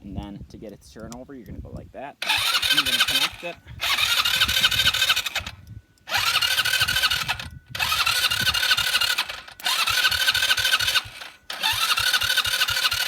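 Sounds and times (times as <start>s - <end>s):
starter motor cranking engine: 2.2s - 13.0s.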